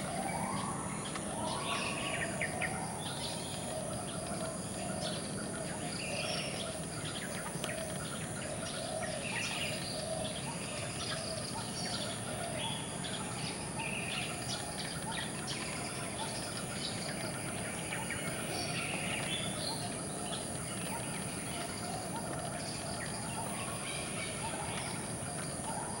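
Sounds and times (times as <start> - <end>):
birds chirping: 0.0 - 26.0
low background noise: 0.0 - 26.0
steady high-pitched drone: 0.0 - 26.0.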